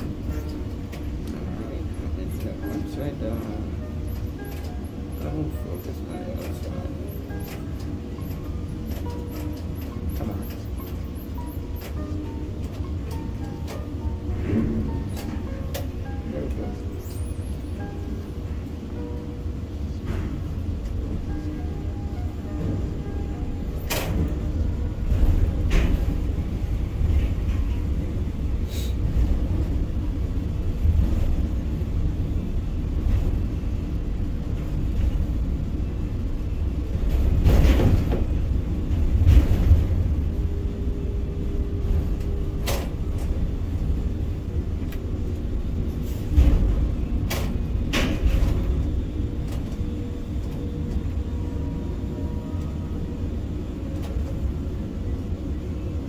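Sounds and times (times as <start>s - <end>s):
crane drives low rumble: 0.0s - 56.0s.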